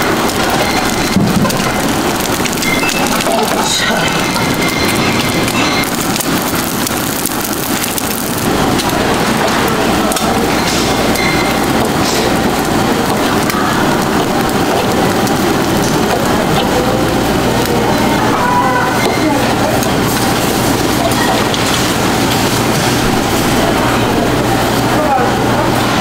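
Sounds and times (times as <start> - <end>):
gas burner rushing: 0.0 - 26.0
water boiling hard: 0.0 - 26.0.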